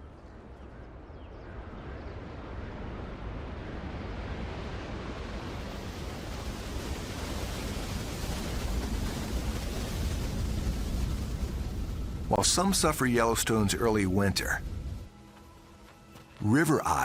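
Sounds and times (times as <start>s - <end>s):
steady outdoor rushing noise: 0.0s - 17.0s.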